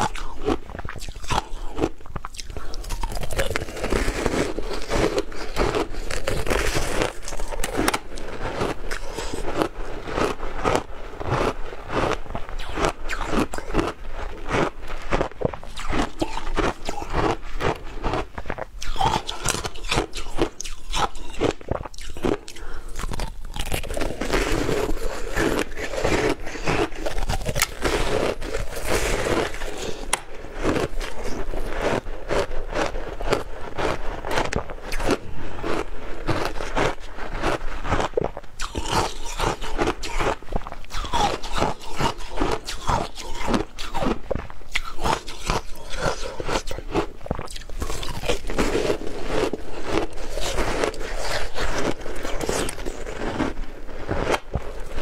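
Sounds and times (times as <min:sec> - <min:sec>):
crunching and chewing ice: 0:00.0 - 0:55.0.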